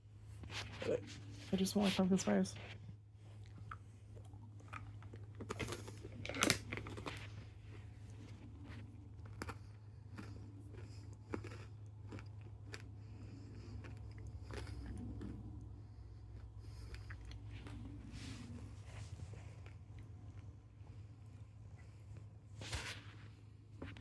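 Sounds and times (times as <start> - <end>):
crunching and chewing pretzels: 2.6 - 24.0.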